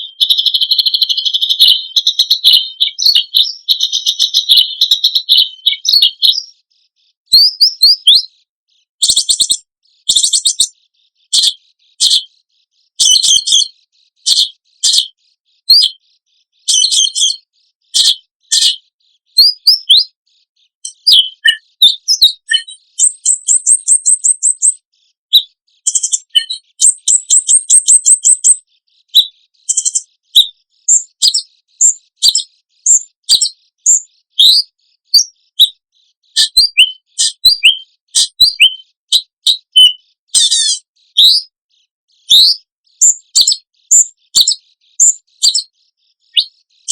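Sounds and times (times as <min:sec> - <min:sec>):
songbird chirps and trills: 0:00.0 - 0:46.9.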